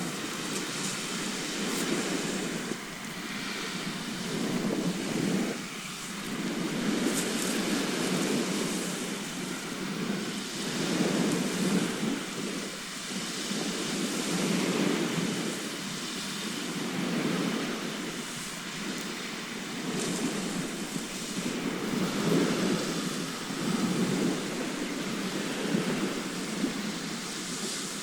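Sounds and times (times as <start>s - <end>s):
sea waves breaking on shore: 0.0s - 28.0s.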